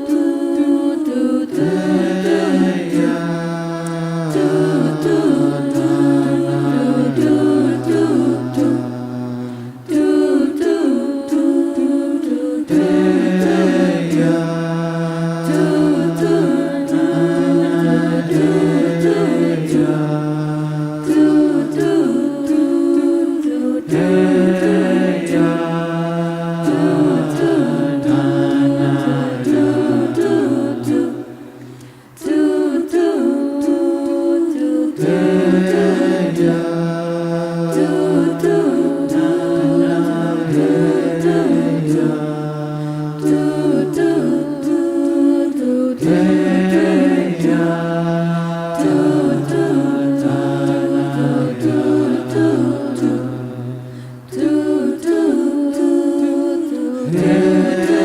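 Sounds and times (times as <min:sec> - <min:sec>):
vocal group singing in harmony: 0:00.0 - 0:58.0.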